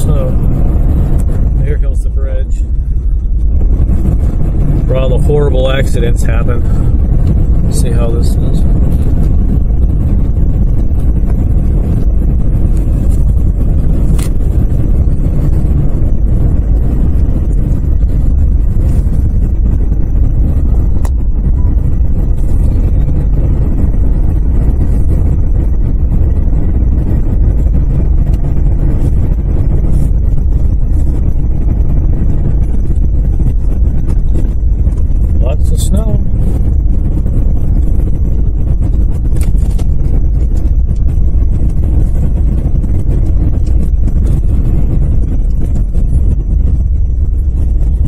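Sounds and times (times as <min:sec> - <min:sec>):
vehicle engine and tyre rumble: 0:00.0 - 0:48.0.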